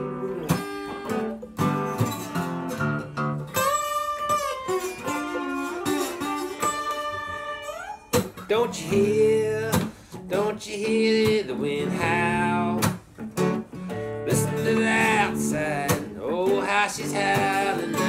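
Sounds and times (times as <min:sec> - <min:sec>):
acoustic guitar picking rhythm: 0:00.0 - 0:18.0
electric guitar lead: 0:00.0 - 0:18.0.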